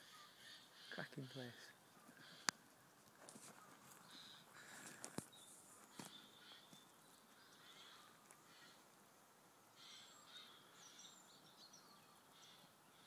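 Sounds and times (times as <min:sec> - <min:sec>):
faint bird chirps: 0:00.0 - 0:09.0, 0:09.7 - 0:13.0.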